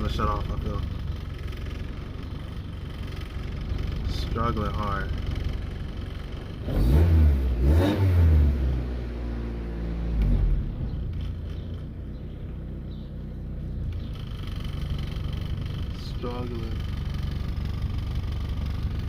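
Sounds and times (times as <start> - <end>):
car engine revving and idling: 0.0 - 19.0.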